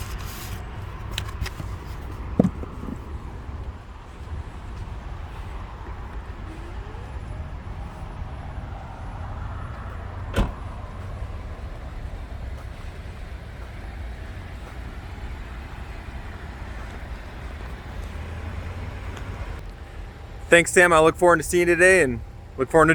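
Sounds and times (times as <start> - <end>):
car engine rumbling: 0.0 - 22.9.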